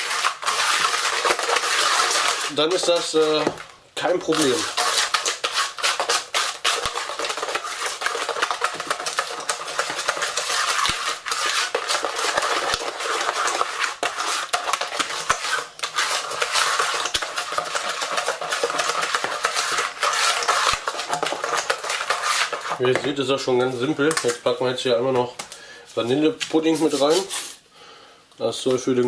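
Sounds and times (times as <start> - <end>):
hand whisk scraping plastic bowl: 0.0 - 24.5.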